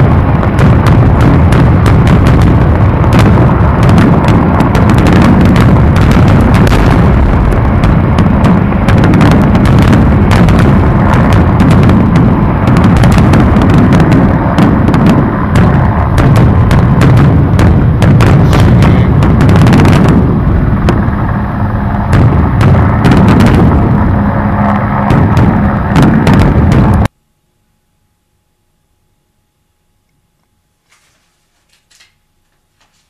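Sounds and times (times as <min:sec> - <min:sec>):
fireworks bursting: 0:00.0 - 0:27.1
fireworks crackles: 0:00.0 - 0:27.1
low rumble: 0:00.0 - 0:27.1.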